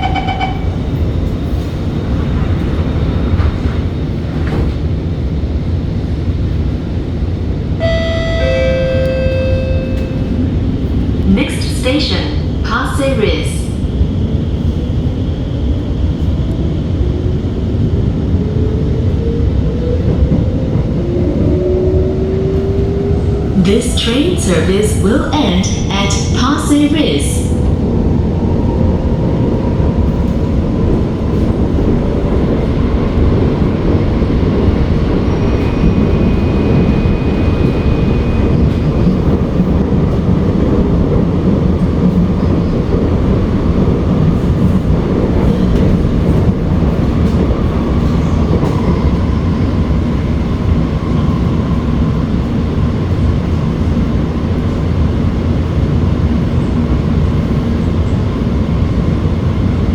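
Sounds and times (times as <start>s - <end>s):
metro train rumbling: 0.0s - 59.9s.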